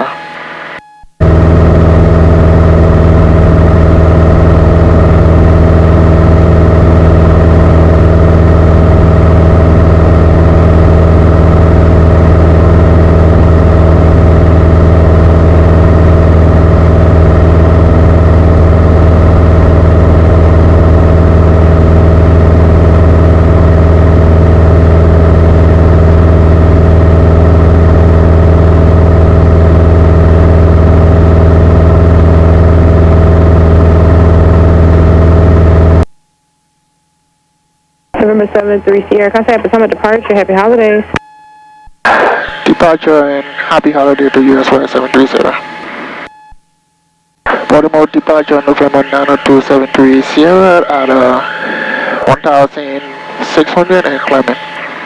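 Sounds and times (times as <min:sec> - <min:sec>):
propeller plane engine droning: 0:00.0 - 0:36.0, 0:42.3 - 0:46.3, 0:47.6 - 0:55.0.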